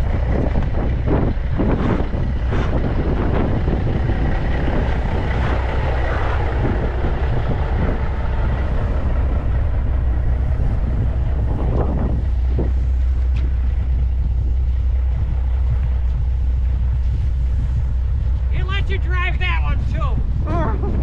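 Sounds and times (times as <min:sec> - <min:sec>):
heavy farm machinery running: 0:00.0 - 0:21.0.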